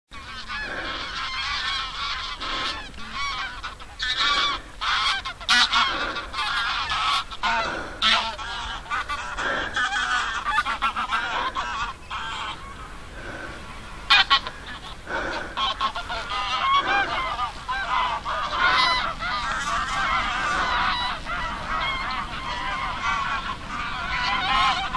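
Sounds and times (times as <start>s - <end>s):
geese honking: 0.1s - 24.9s.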